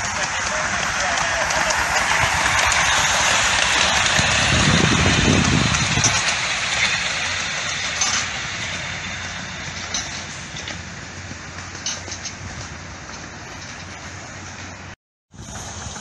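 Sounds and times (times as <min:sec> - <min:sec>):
miniature steam locomotive passing: 0:00.0 - 0:16.0
wheels on rails: 0:00.0 - 0:16.0.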